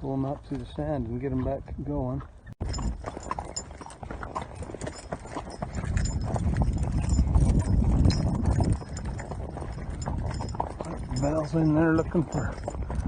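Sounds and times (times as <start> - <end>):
hooves clip-clopping: 0.0 - 13.0.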